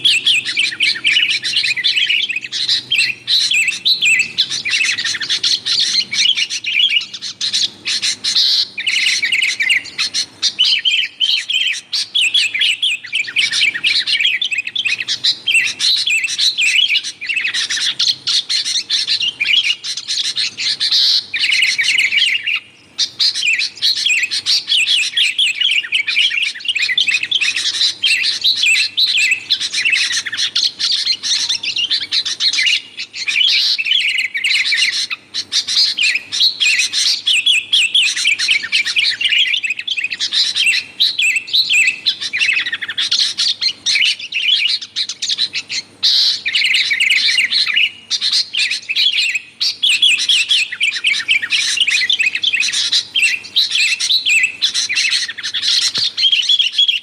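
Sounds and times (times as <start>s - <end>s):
birds chattering noisily: 0.0s - 57.0s.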